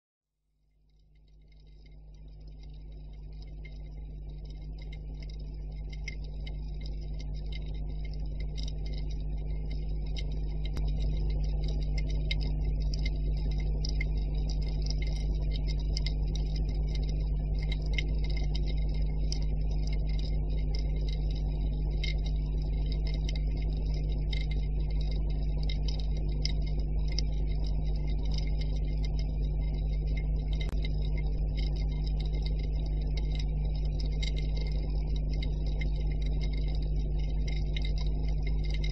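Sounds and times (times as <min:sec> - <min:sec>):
underwater low rumble and hum: 0:00.3 - 0:38.9
crackle of small clicks: 0:00.6 - 0:38.9.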